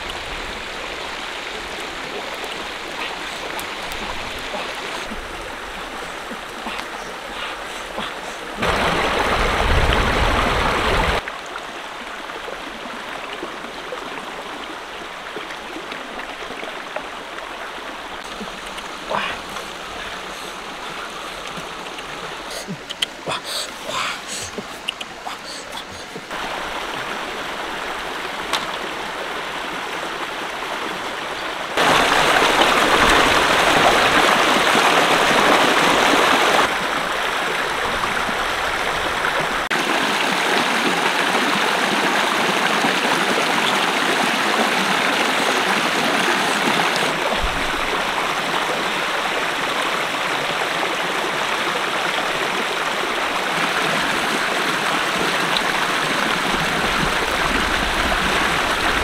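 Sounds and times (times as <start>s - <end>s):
stream water rushing over rocks: 0.0s - 59.0s.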